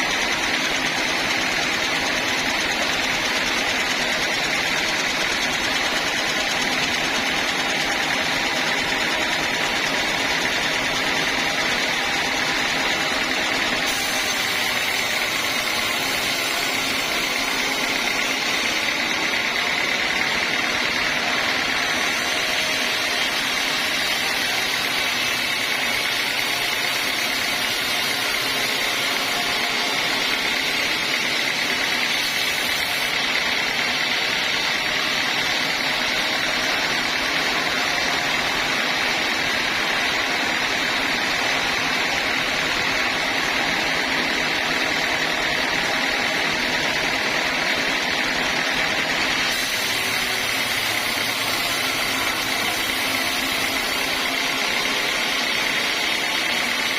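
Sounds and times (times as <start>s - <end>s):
band sawmill running: 0.0s - 56.9s.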